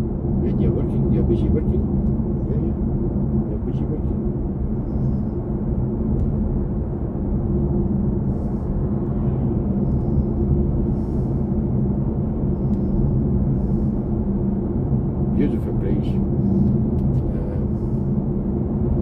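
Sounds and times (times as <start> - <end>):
low even hum: 0.0 - 19.0
road and tyre rumble: 0.0 - 19.0.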